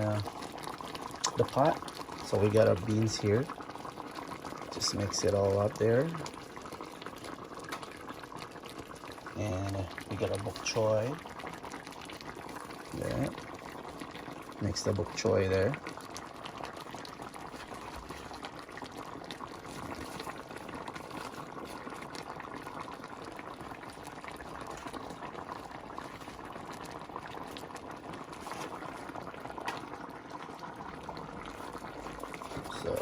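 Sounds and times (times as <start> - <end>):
stew boiling and bubbling: 0.0 - 33.0.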